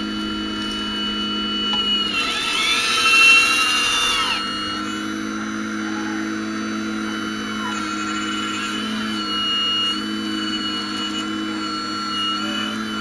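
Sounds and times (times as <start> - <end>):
higher whine rising and falling: 0.0 - 13.0
model excavator motor whine: 0.0 - 13.0.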